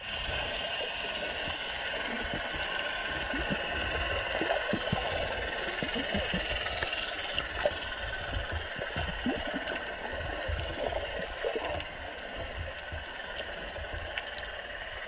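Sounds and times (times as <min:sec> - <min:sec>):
faint steady hum: 0:00.0 - 0:15.0
underwater rumble of water movement: 0:00.0 - 0:15.0.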